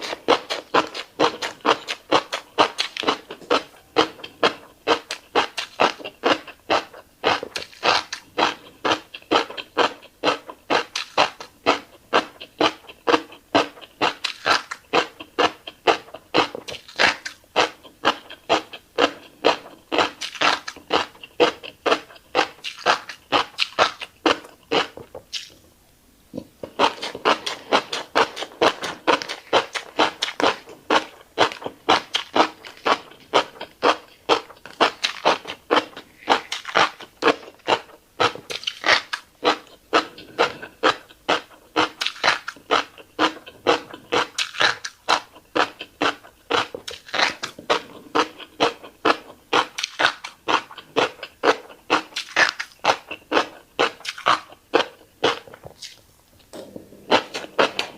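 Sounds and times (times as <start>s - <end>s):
wet chewing mouth sounds: 0.0s - 25.6s, 26.3s - 57.9s.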